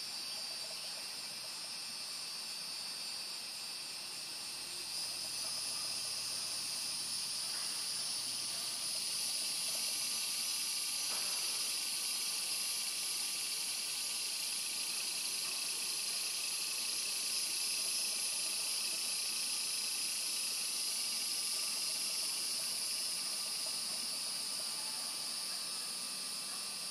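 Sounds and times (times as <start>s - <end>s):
insects buzzing trills: 0.0s - 26.9s.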